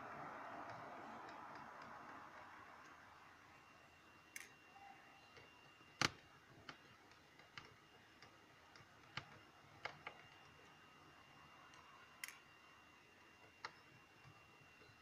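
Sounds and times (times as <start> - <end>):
small clicks and taps: 0.4 - 3.7, 5.3 - 11.1, 11.7 - 15.0.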